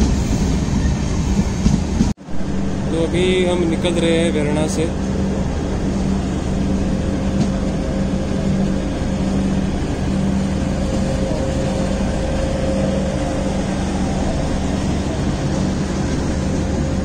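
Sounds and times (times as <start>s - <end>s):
passenger coaches rumbling past: 0.0s - 17.0s.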